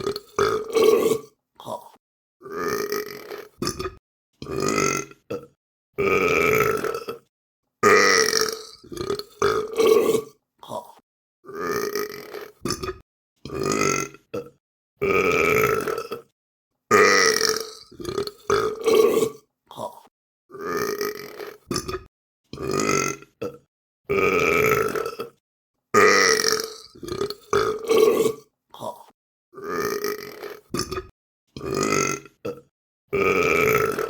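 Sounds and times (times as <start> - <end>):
person burping: 0.0 - 25.4, 26.0 - 34.0.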